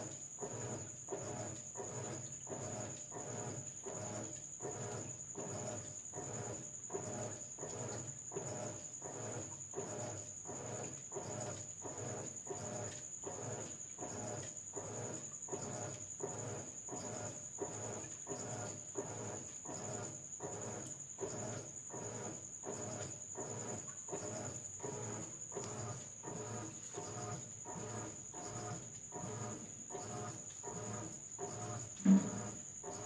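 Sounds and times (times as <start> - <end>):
washing machine agitating: 0.0 - 33.0.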